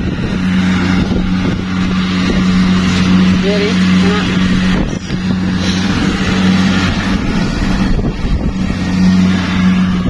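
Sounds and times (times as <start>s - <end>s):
combine harvester running: 0.0s - 10.0s.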